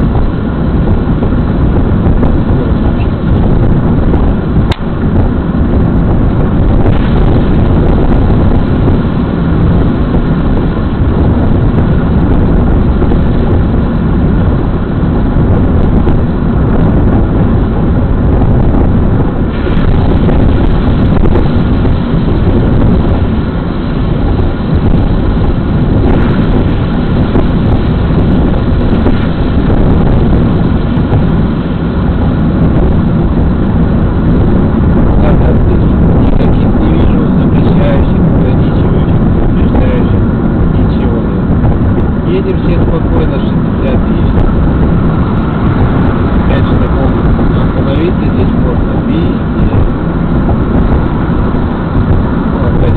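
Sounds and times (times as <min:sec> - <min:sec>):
car road and engine noise: 0:00.0 - 0:52.9.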